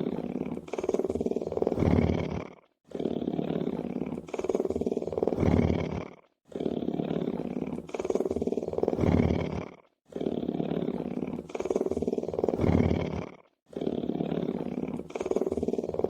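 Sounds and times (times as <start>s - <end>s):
lion purring: 0.0s - 16.0s.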